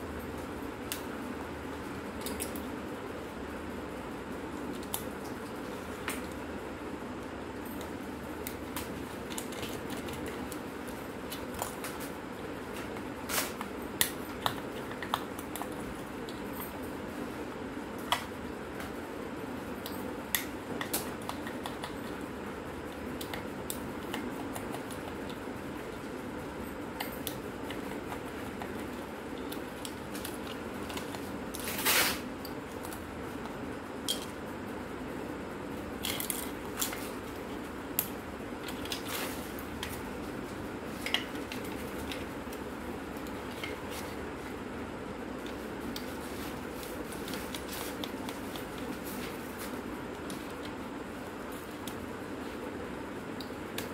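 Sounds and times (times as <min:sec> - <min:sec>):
low background hum: 0:00.0 - 0:53.9.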